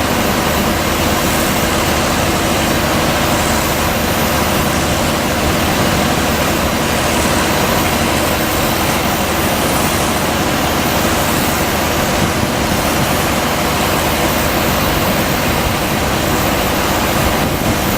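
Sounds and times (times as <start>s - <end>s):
fan blowing water mist: 0.0s - 17.9s.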